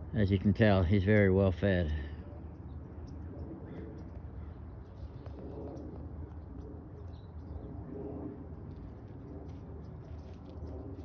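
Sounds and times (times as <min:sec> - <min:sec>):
soft low bird calls: 0:01.8 - 0:11.0.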